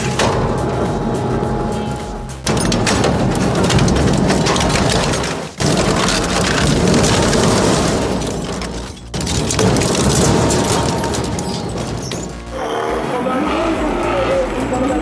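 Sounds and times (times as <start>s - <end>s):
industrial shredder crunching: 0.0s - 14.8s.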